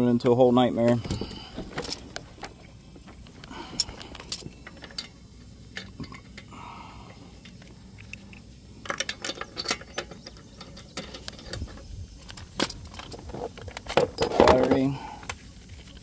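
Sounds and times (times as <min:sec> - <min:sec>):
lug nuts clicking and rattling: 0:00.2 - 0:16.0.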